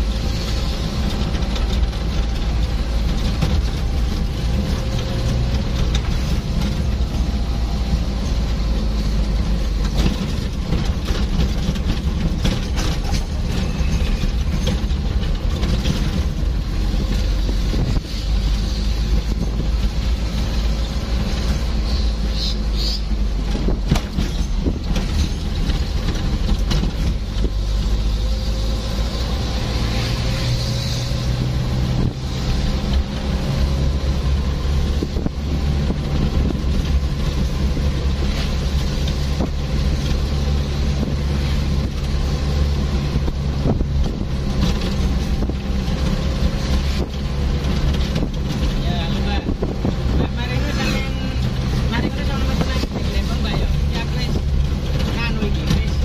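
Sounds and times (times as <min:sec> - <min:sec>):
vehicle engine rumbling: 0:00.0 - 0:56.0
knocks and rattles: 0:00.3 - 0:21.8, 0:23.2 - 0:29.7, 0:30.9 - 0:56.0.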